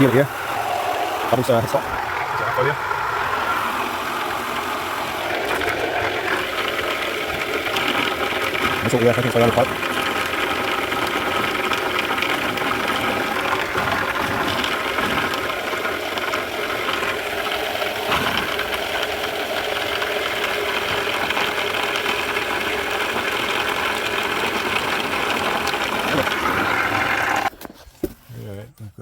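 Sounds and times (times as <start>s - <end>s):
turbine mechanical whirr: 0.0s - 27.5s.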